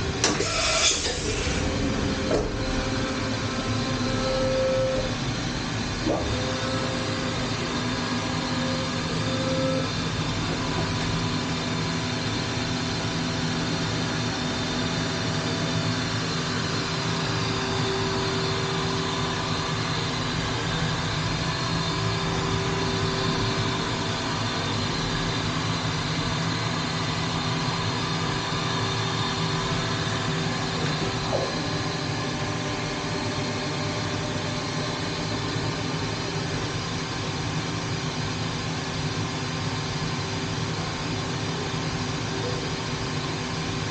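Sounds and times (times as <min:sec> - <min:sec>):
machine hum and hiss: 0:00.0 - 0:43.9.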